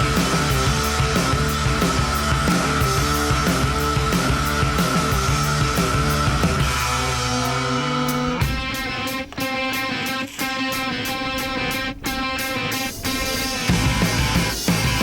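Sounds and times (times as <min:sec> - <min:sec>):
electric guitar music: 0:00.0 - 0:15.0.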